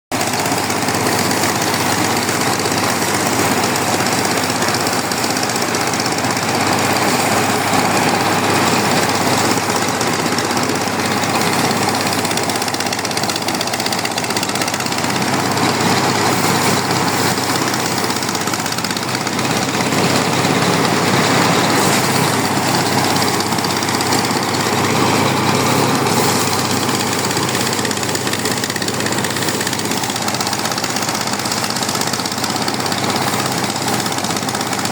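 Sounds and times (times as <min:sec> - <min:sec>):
harvesting machine engine running: 0:00.1 - 0:34.9
mechanical clatter: 0:00.1 - 0:34.9.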